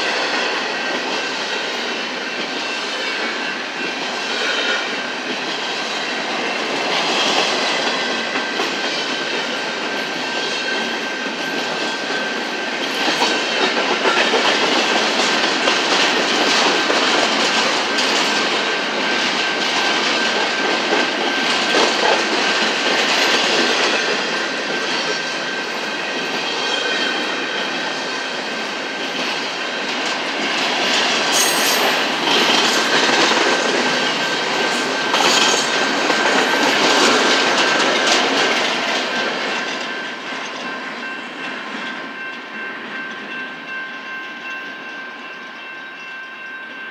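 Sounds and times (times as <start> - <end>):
train wheels clattering over rail joints: 0.0 - 42.2.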